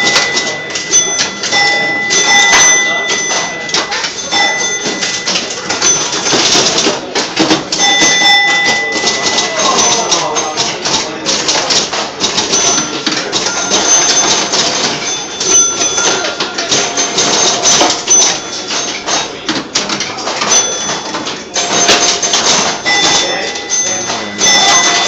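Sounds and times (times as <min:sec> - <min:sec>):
bell-like scoring tones: 0:00.0 - 0:25.0
pinball machine clatter: 0:00.0 - 0:25.0.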